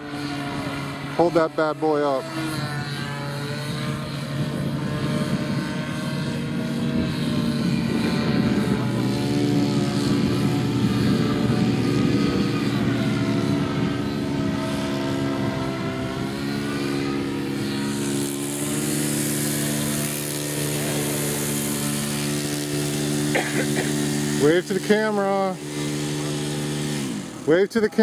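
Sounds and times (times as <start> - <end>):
model plane engine: 0.0 - 28.0.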